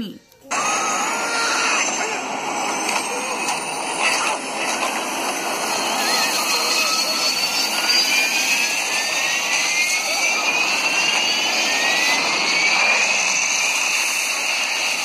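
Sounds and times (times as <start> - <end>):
jet engines spooling up: 0.5 - 15.0.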